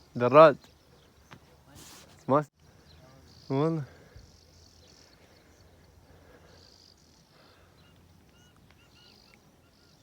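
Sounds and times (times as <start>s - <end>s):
faint insects buzzing: 0.0s - 10.0s.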